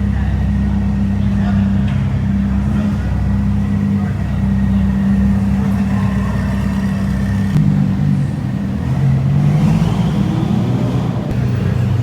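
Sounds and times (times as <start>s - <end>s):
sports car engine at low revs: 0.0s - 12.0s.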